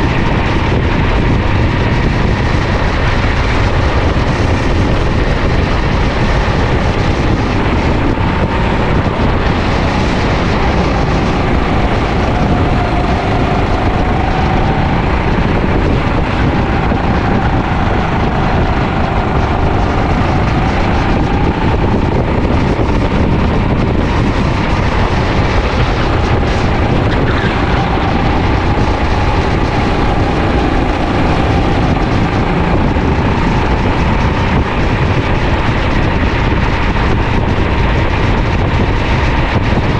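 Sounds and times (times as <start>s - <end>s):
kart engine running: 0.0s - 39.9s
wind noise on microphone: 0.0s - 39.9s.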